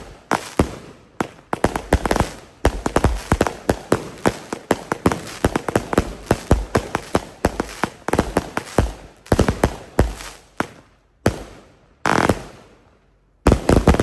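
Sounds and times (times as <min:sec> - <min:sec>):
firework cake bangs: 0:00.0 - 0:12.7, 0:13.5 - 0:14.0
firework crackling burst: 0:00.0 - 0:12.9, 0:13.5 - 0:14.0.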